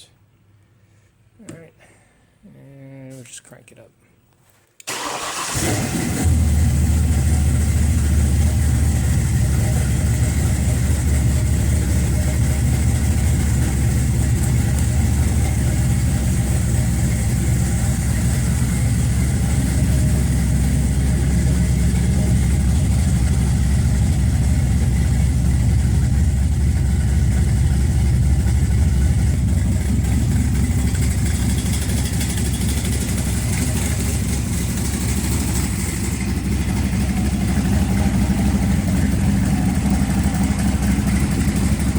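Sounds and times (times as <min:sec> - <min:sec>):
truck engine idling: 0:04.9 - 0:41.9.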